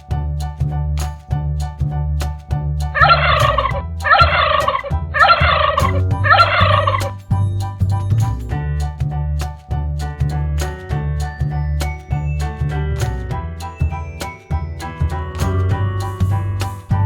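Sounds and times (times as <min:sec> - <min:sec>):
music with steady bass beat: 0:00.0 - 0:17.0.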